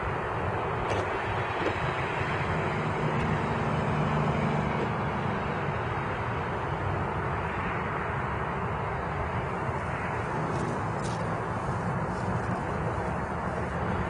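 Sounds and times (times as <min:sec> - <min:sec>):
passing vehicle engine hum: 0:00.0 - 0:14.0
road traffic rumble: 0:00.0 - 0:14.0.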